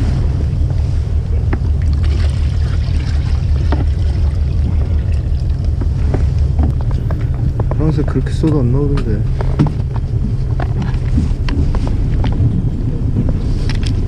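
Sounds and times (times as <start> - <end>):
steady low rumble: 0.0 - 14.0
water sloshing and splashing: 0.0 - 14.0.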